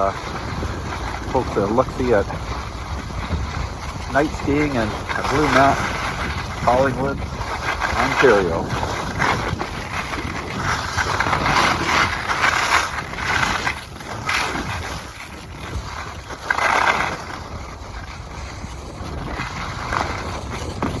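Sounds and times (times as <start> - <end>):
skis scraping over snow: 0.0 - 21.0
wind rushing over microphone: 0.0 - 21.0.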